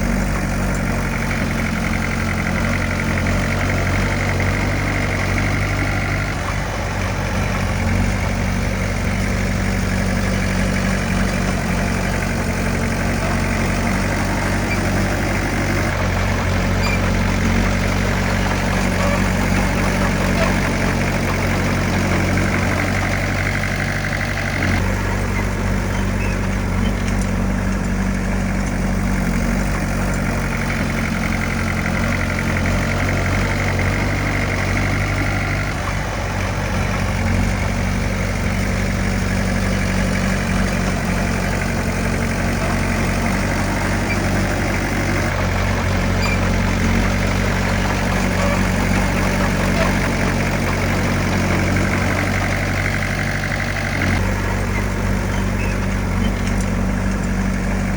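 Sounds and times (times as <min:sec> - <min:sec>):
diesel engine running steadily: 0:00.0 - 0:57.9.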